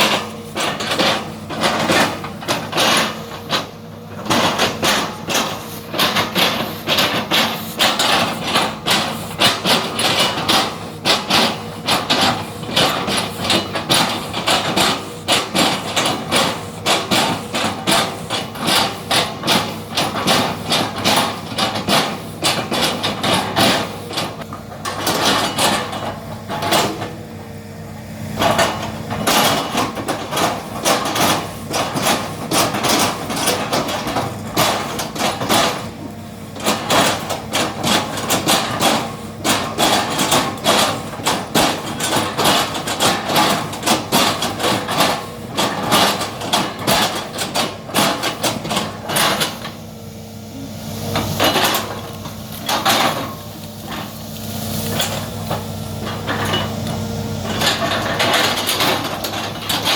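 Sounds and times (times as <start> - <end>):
knocks and clanks of chopping trunks: 0.0 - 27.2, 28.4 - 49.8, 51.2 - 54.2, 54.8 - 59.9
excavator engine running: 0.0 - 59.9.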